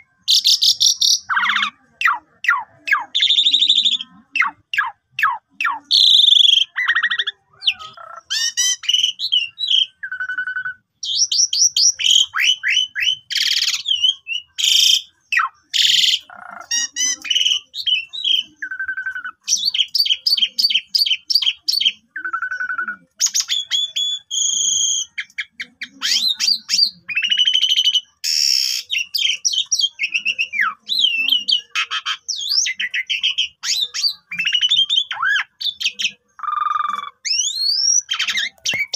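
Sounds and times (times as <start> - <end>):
starling singing: 0.0 - 38.9.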